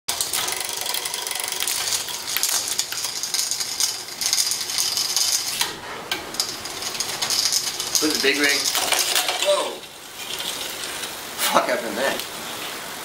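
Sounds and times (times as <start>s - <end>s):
bicycle chain clicking and rattling: 0.1s - 11.2s.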